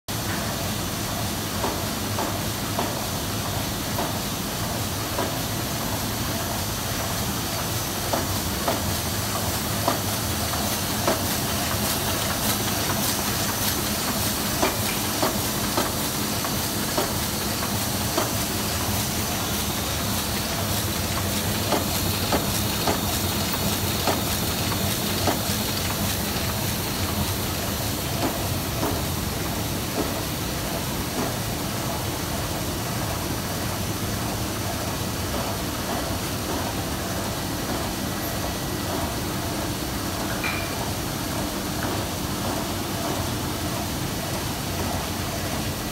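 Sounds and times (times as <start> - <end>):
printing press mechanical hum: 0.1 - 45.9.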